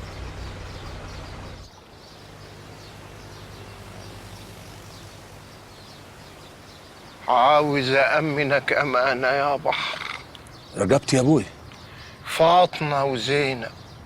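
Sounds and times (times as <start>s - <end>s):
vehicle engine humming: 0.0s - 12.4s
faint outdoor background noise: 0.0s - 14.0s.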